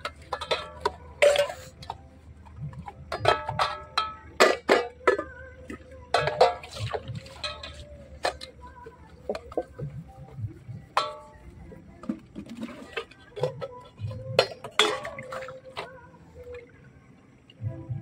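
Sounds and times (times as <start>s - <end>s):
metal pots clanking: 0.0s - 16.6s.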